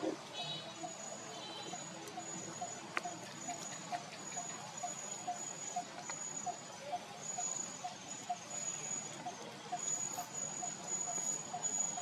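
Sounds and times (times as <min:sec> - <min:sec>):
repeated animal call: 0:00.0 - 0:12.0.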